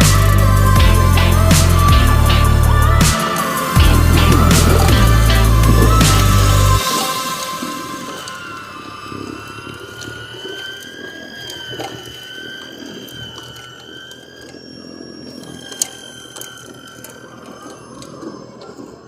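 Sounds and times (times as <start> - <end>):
snowblower electric motor whine: 0.0 - 19.0.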